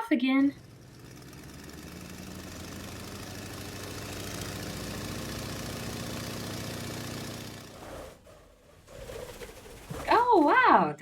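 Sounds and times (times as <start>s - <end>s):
propeller airplane engine: 0.4s - 10.4s.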